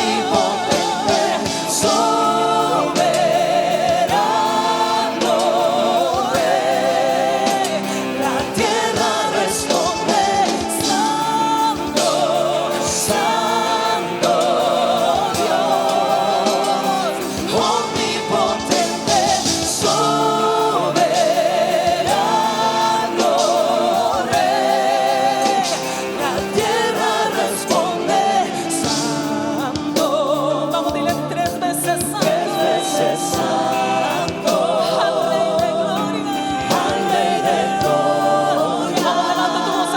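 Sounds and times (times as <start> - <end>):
voices singing held notes: 0.0 - 39.9
worship band music: 0.0 - 39.9.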